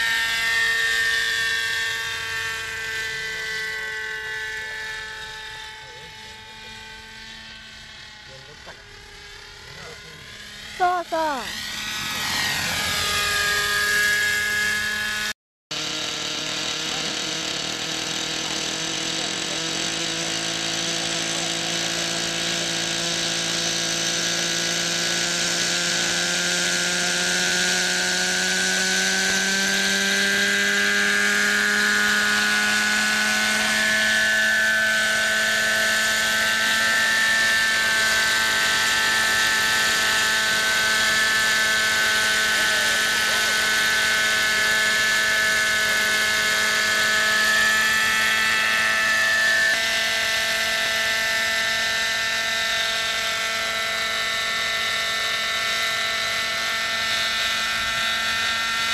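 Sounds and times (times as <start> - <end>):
model helicopter engine whining: 0.0 - 58.9.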